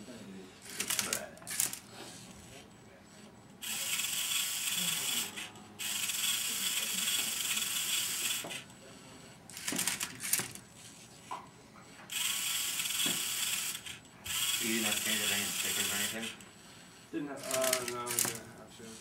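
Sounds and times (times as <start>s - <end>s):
electric motors and gears whirring: 0.6s - 10.9s, 12.0s - 19.0s.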